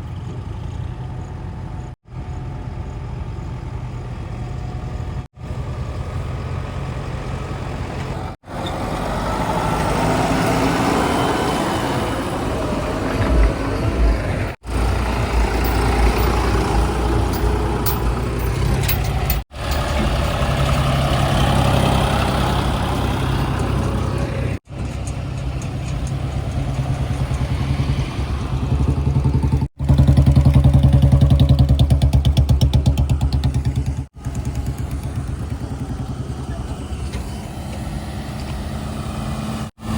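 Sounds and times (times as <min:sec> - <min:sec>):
diesel engines revving: 0:00.0 - 0:39.9.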